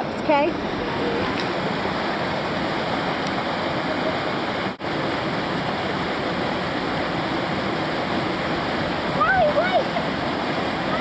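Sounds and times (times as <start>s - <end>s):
whitewater rushing: 0.0s - 11.0s.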